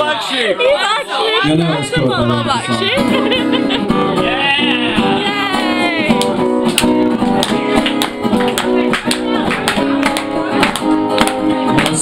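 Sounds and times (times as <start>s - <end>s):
acoustic guitar strumming: 2.1s - 12.0s.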